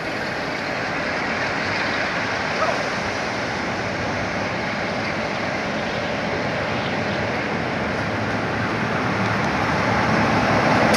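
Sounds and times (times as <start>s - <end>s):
diesel locomotive passing: 0.0s - 10.9s.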